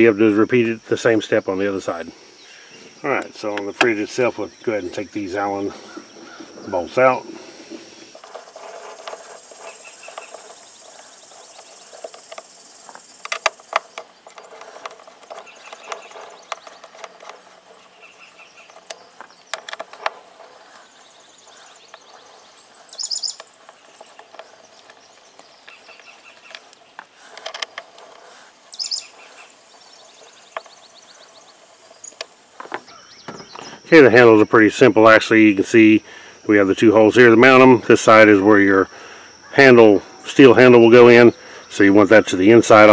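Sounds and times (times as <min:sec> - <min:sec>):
birds chirping: 0:00.0 - 0:42.9
insects humming: 0:00.0 - 0:42.9.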